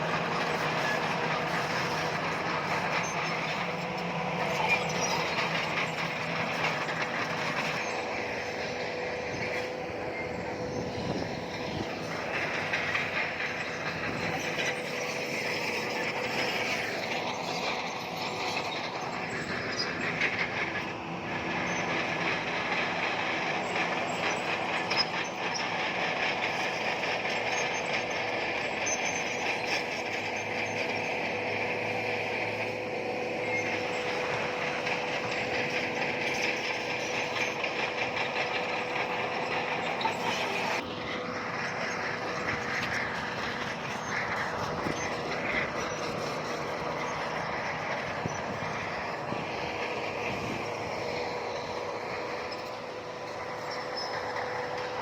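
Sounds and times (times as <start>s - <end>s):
bulldozer diesel engine: 0.0s - 55.0s
crawler tracks clattering: 0.0s - 55.0s.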